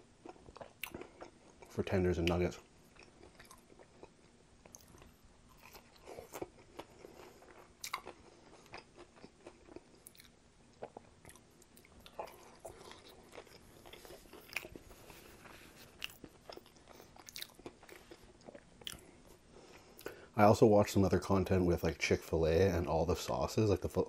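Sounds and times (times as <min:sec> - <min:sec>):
chewing crunchy fried chicken: 0:00.1 - 0:20.2.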